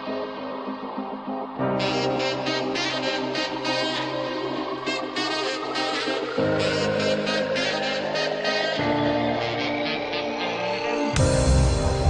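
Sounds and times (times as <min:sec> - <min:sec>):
held synth chords: 0:00.0 - 0:12.0.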